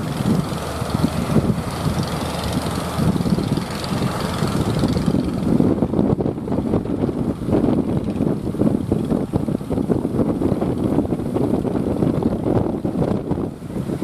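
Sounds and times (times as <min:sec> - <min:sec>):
boat engines rumbling: 0:00.0 - 0:14.0
strong wind buffeting microphone: 0:00.0 - 0:14.0.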